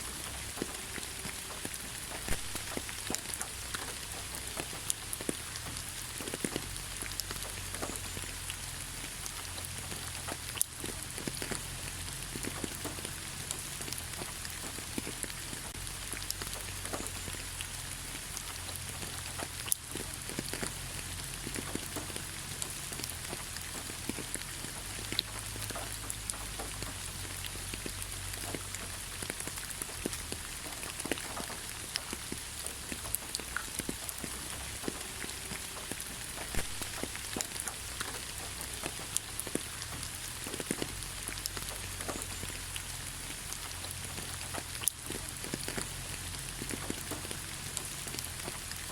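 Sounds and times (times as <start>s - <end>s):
rain pattering on leaves: 0.0s - 48.9s.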